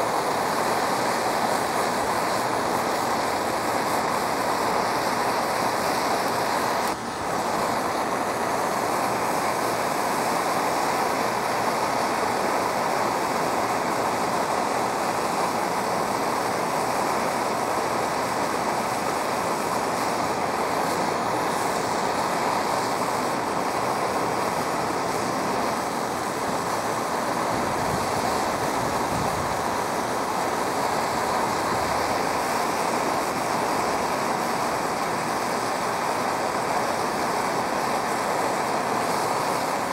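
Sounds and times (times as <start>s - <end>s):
torch flame hissing: 0.0s - 39.9s.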